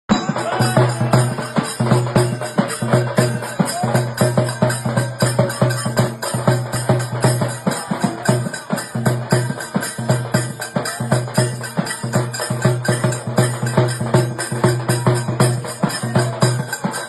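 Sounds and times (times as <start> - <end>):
frame drum beaten with sticks: 0.1 - 17.0.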